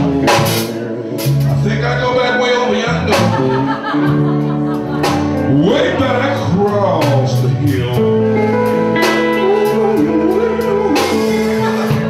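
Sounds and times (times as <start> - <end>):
drum kit with cymbals: 0.0 - 2.0, 3.0 - 12.0
man singing: 0.0 - 3.9, 5.4 - 12.0
electric guitar: 0.0 - 12.0.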